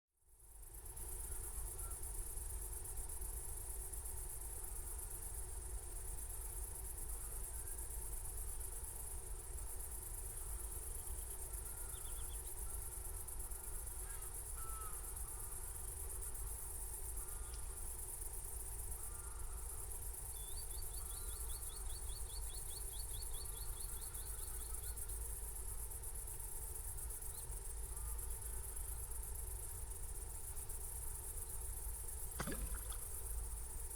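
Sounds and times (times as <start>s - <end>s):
short soft insect calls: 0.4s - 33.9s
crickets trilling: 0.6s - 33.9s.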